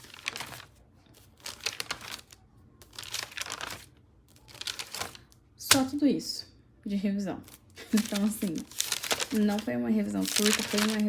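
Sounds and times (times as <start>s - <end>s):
notebook pages rustling: 0.0s - 5.4s, 7.5s - 11.0s.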